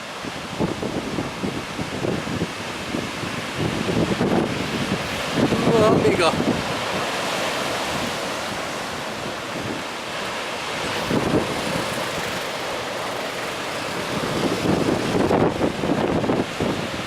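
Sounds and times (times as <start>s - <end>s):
heavy surf breaking on shore: 0.0s - 17.0s
wind buffeting microphone: 0.1s - 17.0s.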